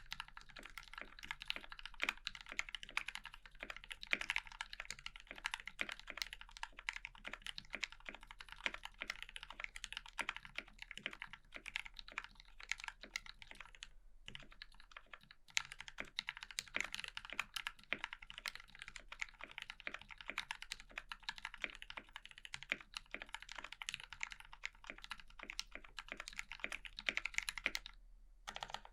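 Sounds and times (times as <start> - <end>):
fast typing on mechanical keyboard: 0.0 - 28.9.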